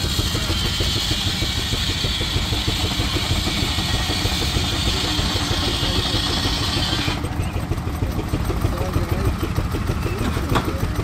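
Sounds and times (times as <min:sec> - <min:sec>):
engine running with even pulsing: 0:00.0 - 0:11.0.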